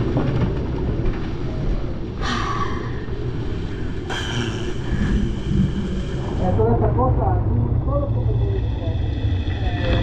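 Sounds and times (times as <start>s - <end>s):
storm wind rumble: 0.0s - 10.0s.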